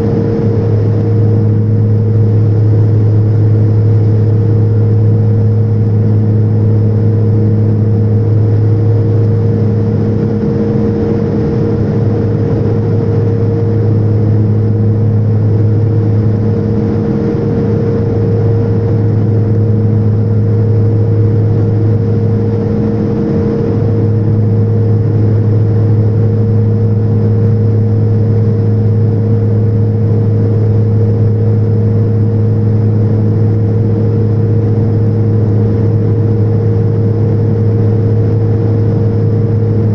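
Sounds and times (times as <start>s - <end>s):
propeller engine drone: 0.0s - 39.9s.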